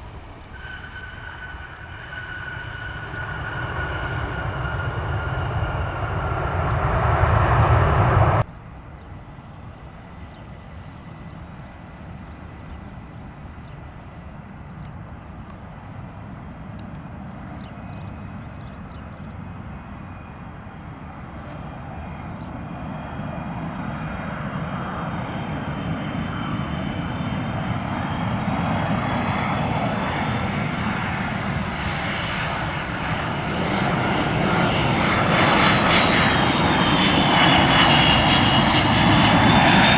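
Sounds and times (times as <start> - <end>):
airliner landing turbofan whine: 0.0 - 39.9
loud jet engine: 0.0 - 39.9.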